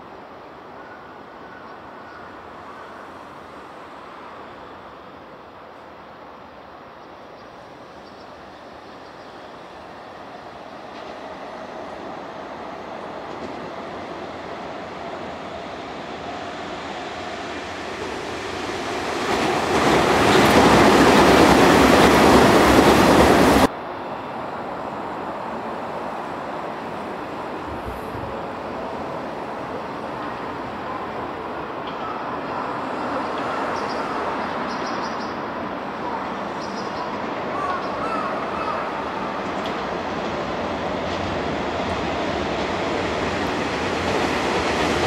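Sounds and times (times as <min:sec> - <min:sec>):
electric train passing: 0:00.0 - 0:45.0
rumble of approaching trains: 0:00.0 - 0:45.0.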